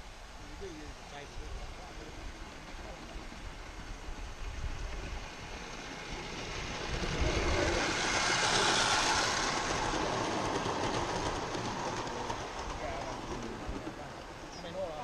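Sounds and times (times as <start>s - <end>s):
model train wheels rumbling on rails: 0.0s - 15.0s.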